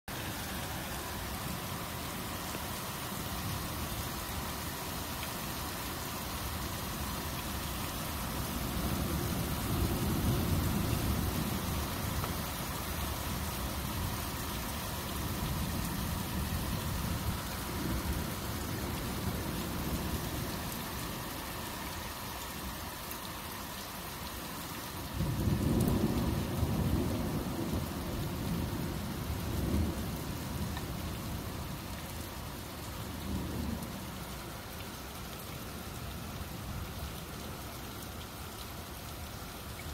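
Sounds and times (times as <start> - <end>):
steady rain: 0.1 - 39.9.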